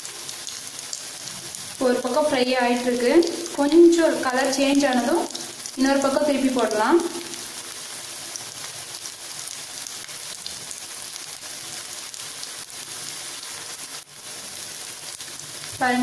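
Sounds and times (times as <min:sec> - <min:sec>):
cutlets sizzling in oil: 0:00.0 - 0:16.0.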